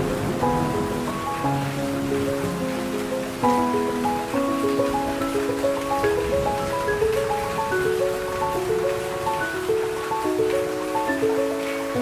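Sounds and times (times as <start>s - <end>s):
calm music of slow held notes: 0.0s - 12.0s
heavy rain hissing: 0.0s - 12.0s.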